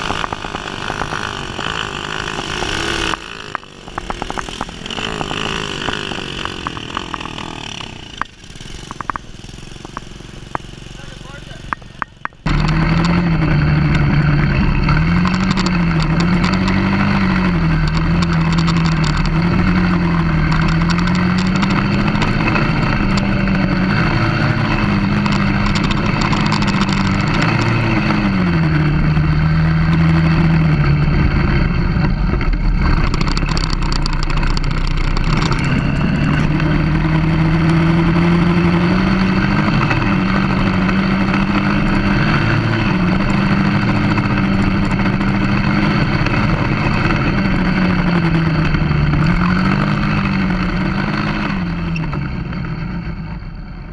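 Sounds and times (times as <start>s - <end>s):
quad engine revving: 0.0s - 53.5s.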